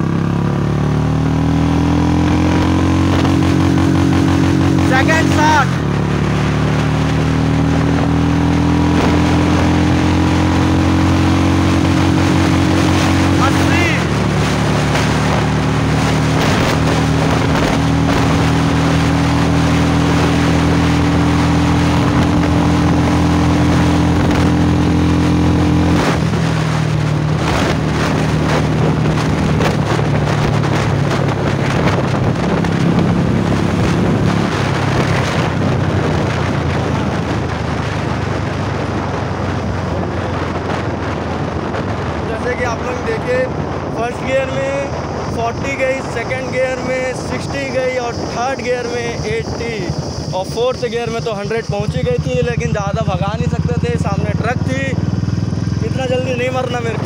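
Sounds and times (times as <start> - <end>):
motorcycle engine running hard: 0.0 - 57.0
wind noise on microphone: 0.0 - 57.0.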